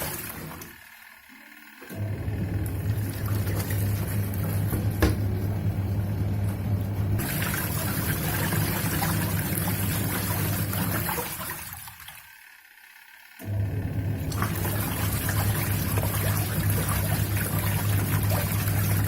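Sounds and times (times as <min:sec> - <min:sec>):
washing machine motor humming: 0:00.0 - 0:19.0.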